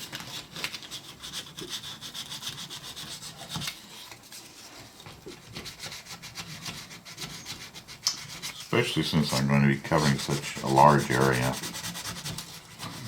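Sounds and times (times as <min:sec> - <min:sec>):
sandpaper rubbing on plastic: 0:00.0 - 0:13.0.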